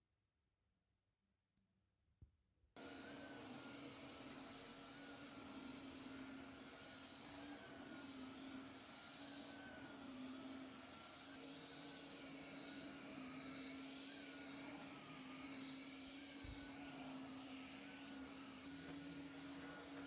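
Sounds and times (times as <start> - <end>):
electric motor humming and whining: 2.8 - 20.0.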